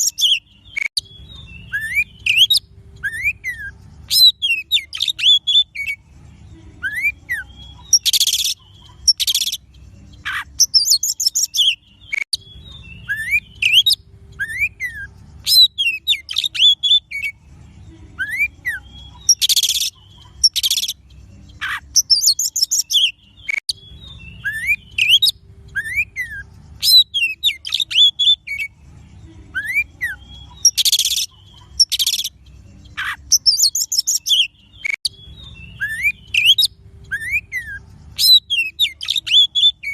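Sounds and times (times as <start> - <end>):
songbird whistling and twittering: 0.0 - 39.9.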